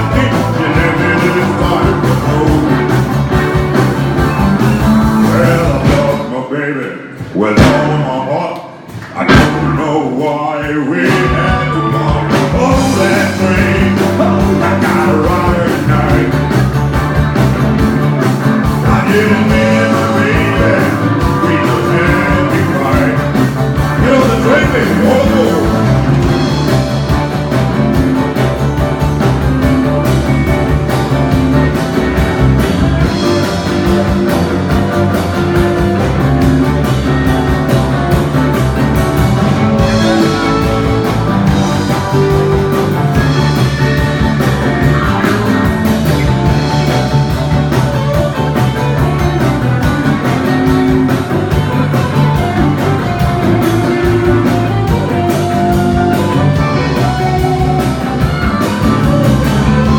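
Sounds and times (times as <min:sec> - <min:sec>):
drums with steady beat: 0:00.0 - 0:06.4, 0:07.1 - 0:59.9
electric guitar: 0:00.0 - 0:59.9.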